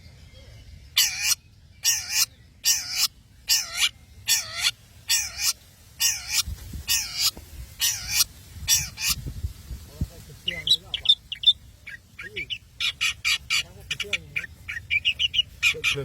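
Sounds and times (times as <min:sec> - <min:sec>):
shrike giving harsh calls: 0:01.0 - 0:09.2, 0:10.4 - 0:16.0.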